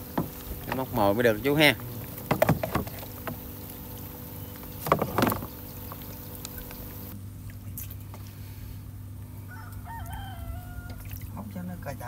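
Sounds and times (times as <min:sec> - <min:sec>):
boat motor humming: 0:00.0 - 0:11.6.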